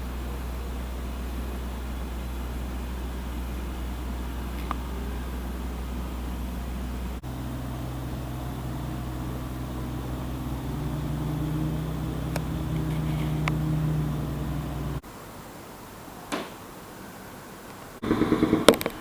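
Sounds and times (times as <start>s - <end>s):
vehicle engine humming: 0.0s - 15.0s, 18.0s - 19.0s.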